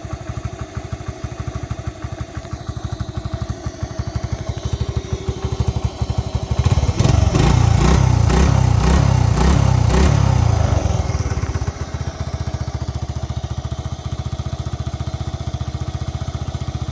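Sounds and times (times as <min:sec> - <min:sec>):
small engine idling and revving: 0:00.0 - 0:16.9.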